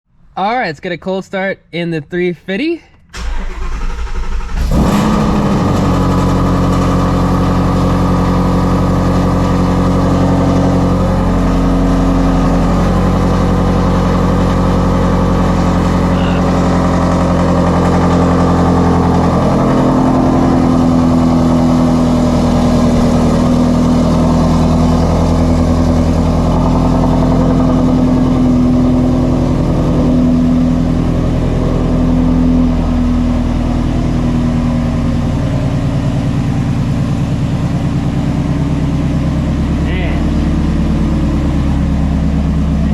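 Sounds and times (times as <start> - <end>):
car engine starting and idling loudly: 2.9 - 42.9.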